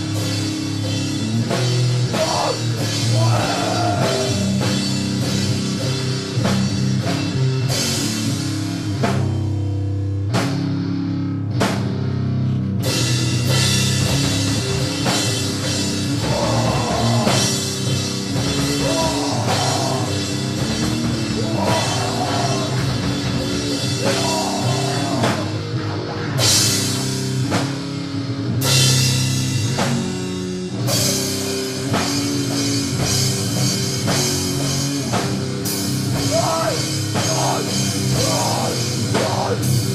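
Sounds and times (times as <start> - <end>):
drum kit with cymbal hits: 0.0 - 10.9, 11.6 - 39.9
distorted guitar: 0.0 - 39.9
heavy metal music: 0.0 - 39.9.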